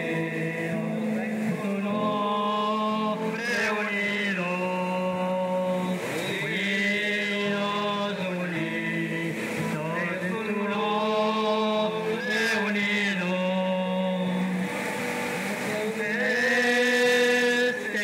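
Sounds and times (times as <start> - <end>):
men singing a slow hymn: 0.0 - 18.0.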